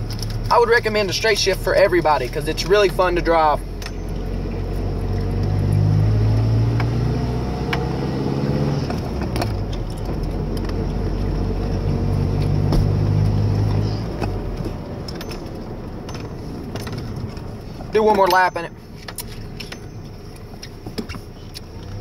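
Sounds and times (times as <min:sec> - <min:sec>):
pickup engine accelerating: 0:00.0 - 0:22.0.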